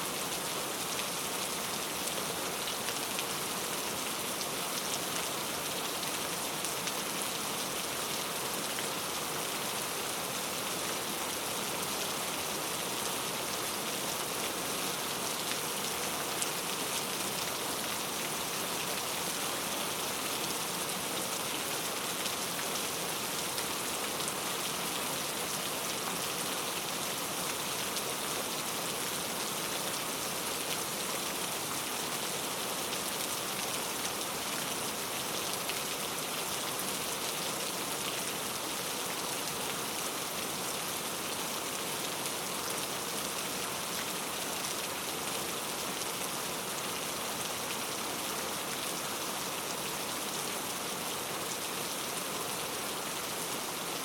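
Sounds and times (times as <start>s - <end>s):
steady rain on leaves: 0.0s - 54.0s.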